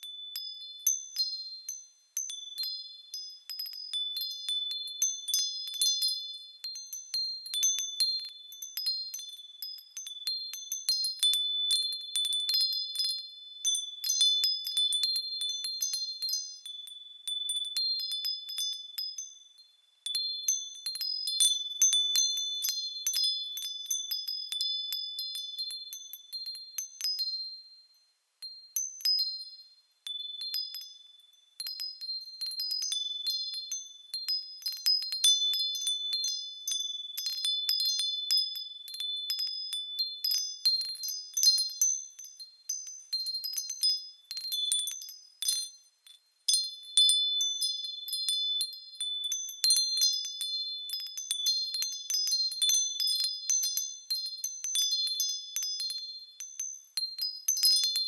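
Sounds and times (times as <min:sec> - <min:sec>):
small metal bells ringing: 0:00.0 - 0:58.0.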